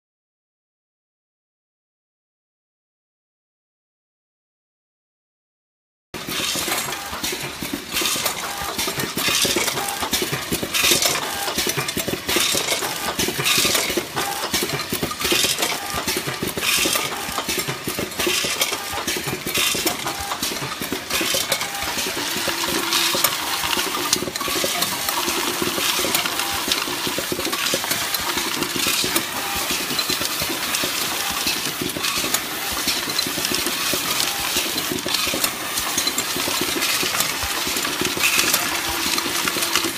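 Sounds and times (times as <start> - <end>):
machine running: 6.2 - 39.9.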